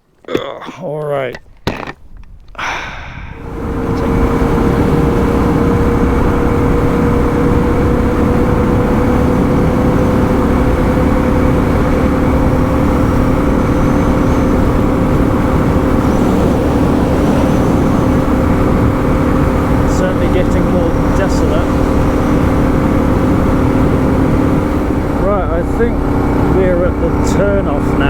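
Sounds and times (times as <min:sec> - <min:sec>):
wind and road noise: 0:00.0 - 0:28.0
motorcycle engine cruising: 0:03.2 - 0:28.0.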